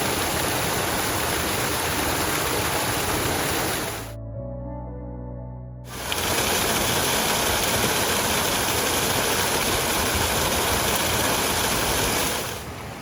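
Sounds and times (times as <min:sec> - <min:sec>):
brook water rushing: 0:00.0 - 0:04.1, 0:05.9 - 0:13.0.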